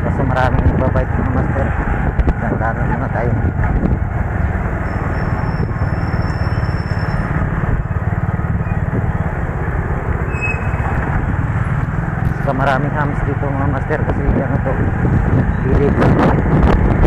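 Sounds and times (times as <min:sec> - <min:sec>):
motorcycle engine rumbling: 0:00.0 - 0:17.0
road noise: 0:00.0 - 0:17.0.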